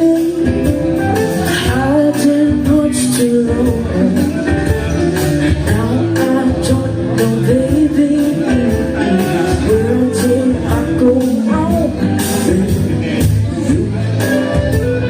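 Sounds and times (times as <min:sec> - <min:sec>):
person singing: 0:00.0 - 0:14.8
electric guitar: 0:00.0 - 0:15.0.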